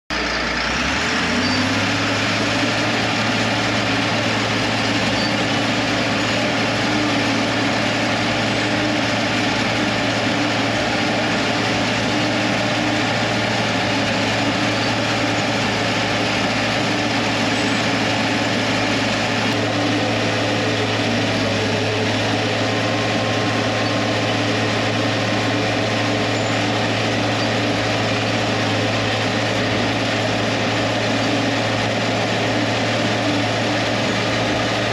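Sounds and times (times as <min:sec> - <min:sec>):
diesel engine droning: 0:00.1 - 0:34.9.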